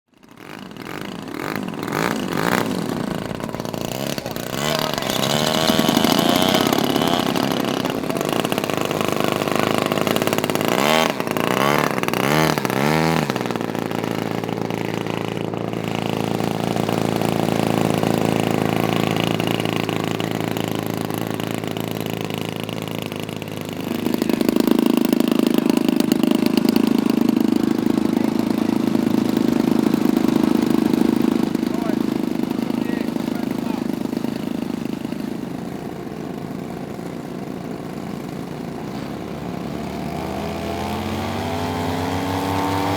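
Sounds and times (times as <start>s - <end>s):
model airplane piston engines: 0.1s - 42.9s.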